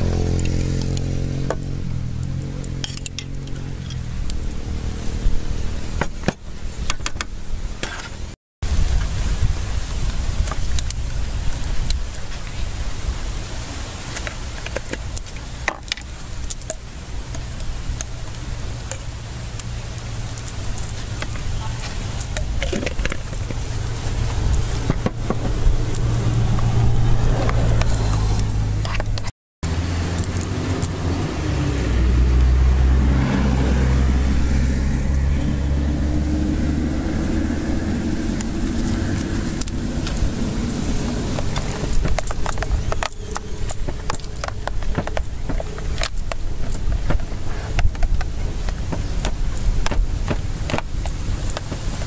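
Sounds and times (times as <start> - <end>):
engine humming: 0.0 - 52.0
wind rumble on microphone: 0.0 - 52.0.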